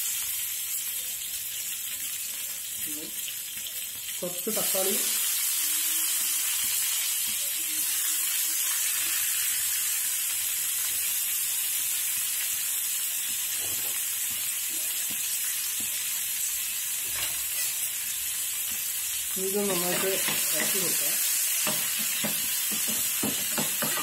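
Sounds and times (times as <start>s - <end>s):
food frying in hot oil: 0.0s - 24.0s.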